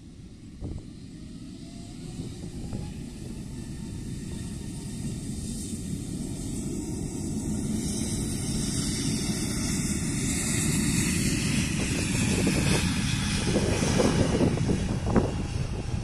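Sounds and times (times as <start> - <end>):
jet engines rushing: 0.0 - 16.0
wind on the microphone: 0.0 - 16.0.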